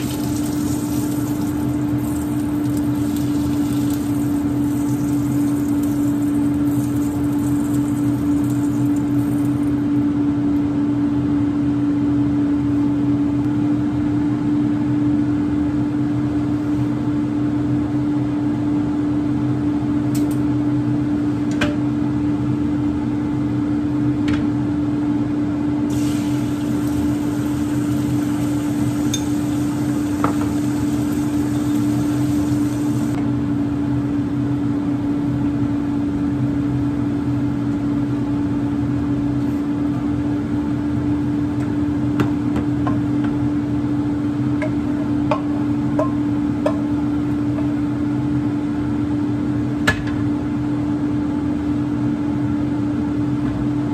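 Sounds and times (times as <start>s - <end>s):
range hood fan humming: 0.0s - 53.9s.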